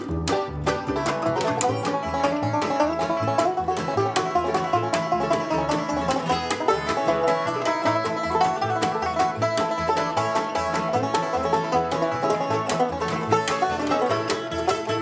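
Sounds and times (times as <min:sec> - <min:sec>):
banjo picking: 0:00.0 - 0:15.0
strummed acoustic guitar: 0:00.0 - 0:15.0
upright bass walking: 0:00.0 - 0:15.0.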